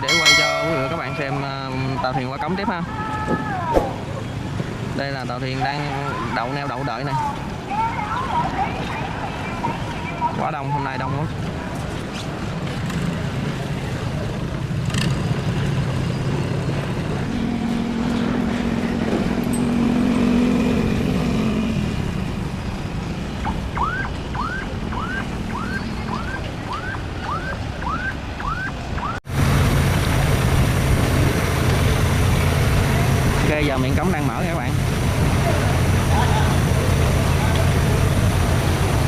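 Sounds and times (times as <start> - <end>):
boat engines humming: 0.0 - 39.0.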